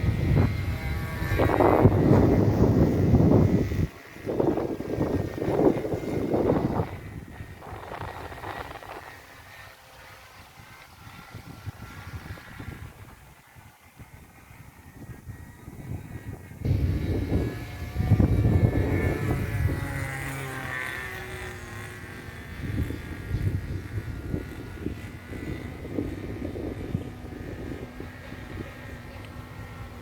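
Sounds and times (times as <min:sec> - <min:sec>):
model airplane engine: 0:00.0 - 0:30.0.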